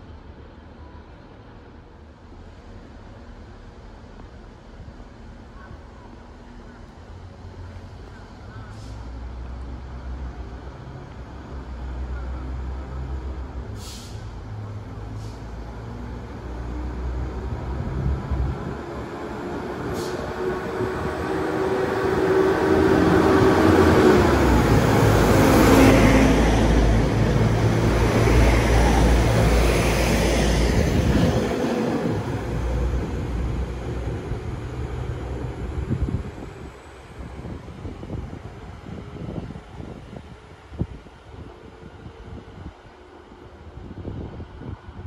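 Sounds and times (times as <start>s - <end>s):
train passing close by: 0.0s - 45.0s.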